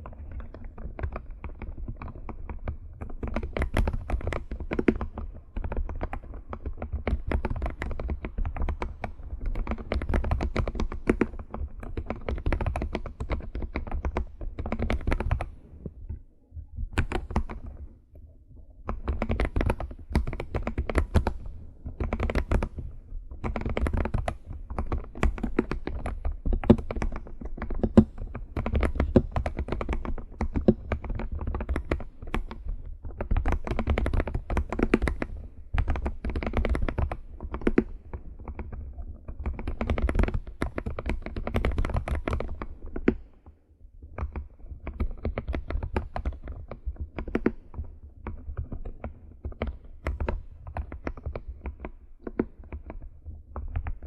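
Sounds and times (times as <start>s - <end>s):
typing on computer keyboard: 0.0s - 16.2s, 17.0s - 17.9s, 18.9s - 43.3s, 44.1s - 54.0s.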